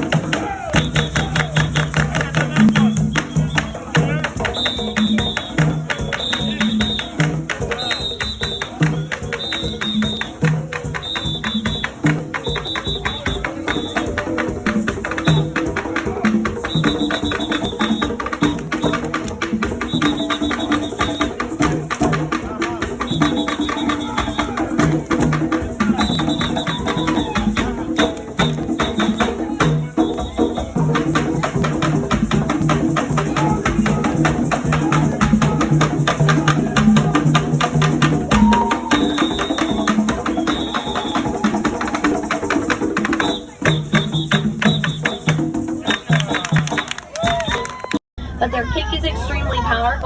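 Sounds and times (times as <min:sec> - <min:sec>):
shaker rattles: 0:00.0 - 0:47.7
music with drum beat: 0:00.0 - 0:48.0.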